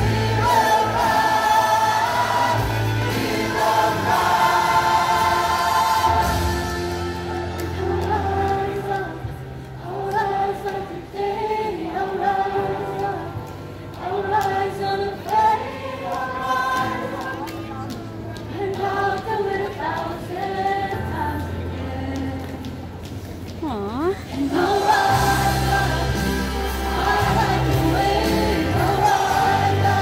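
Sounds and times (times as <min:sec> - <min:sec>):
youth choir singing in parts: 0:00.0 - 0:17.5, 0:18.5 - 0:22.1, 0:24.4 - 0:30.0.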